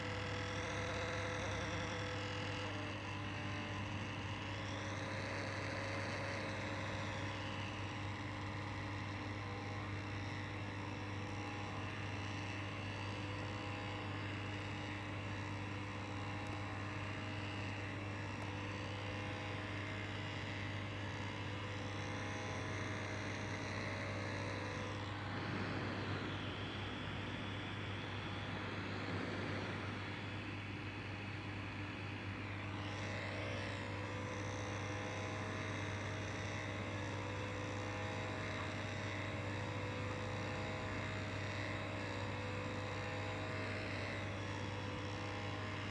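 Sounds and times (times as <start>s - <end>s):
laptop fan whirring with whine: 0.0s - 45.9s.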